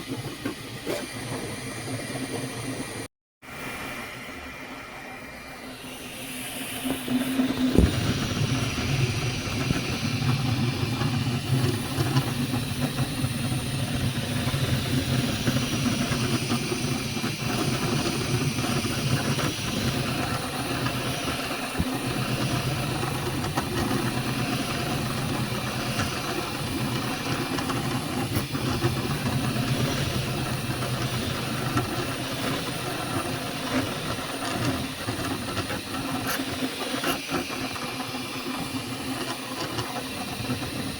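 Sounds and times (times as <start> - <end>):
small motor humming and hissing: 0.0 - 40.9.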